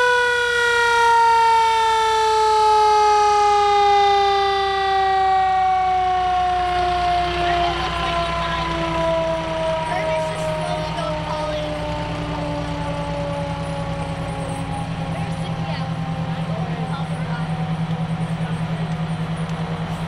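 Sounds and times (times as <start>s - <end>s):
mechanical siren wail falling: 0.0s - 18.4s.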